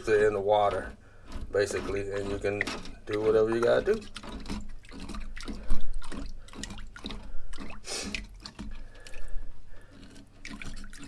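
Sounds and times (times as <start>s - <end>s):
fish being scraped: 0.0s - 11.0s
water splashing in a sink: 0.0s - 11.0s.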